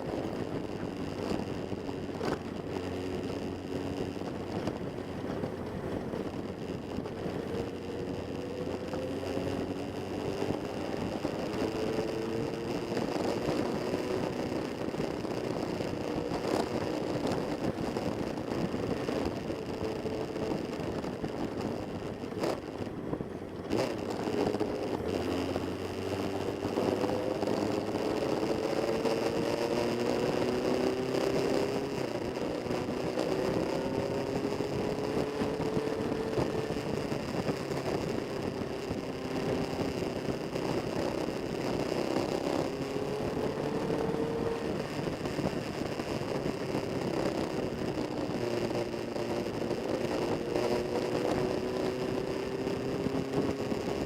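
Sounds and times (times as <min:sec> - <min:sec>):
motorcycle engines accelerating: 0:00.0 - 0:54.0.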